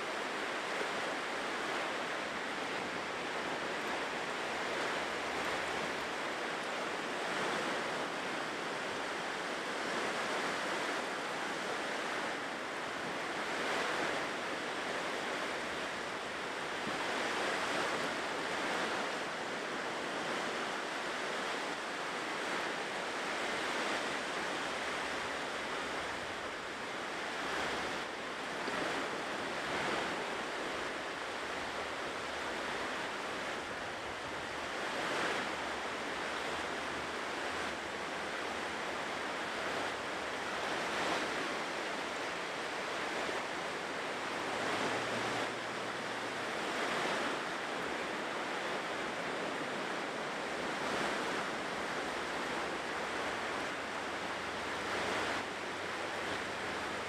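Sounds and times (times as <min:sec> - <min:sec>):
ocean waves washing onto shore: 0:00.0 - 0:57.0.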